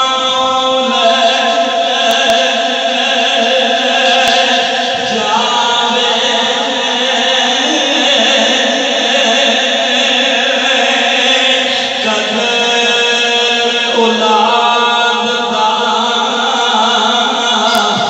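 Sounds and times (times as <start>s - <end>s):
man chanting over loudspeakers: 0.0s - 18.0s.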